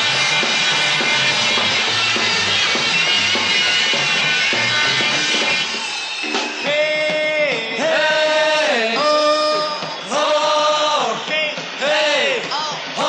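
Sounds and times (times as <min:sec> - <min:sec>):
beat group music: 0:00.0 - 0:13.0.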